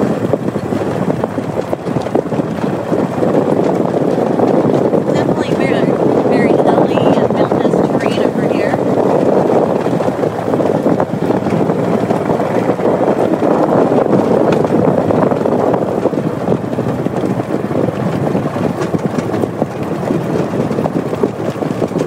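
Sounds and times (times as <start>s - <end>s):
small vehicle engine running: 0.0s - 22.0s
wind on microphone: 0.0s - 22.0s.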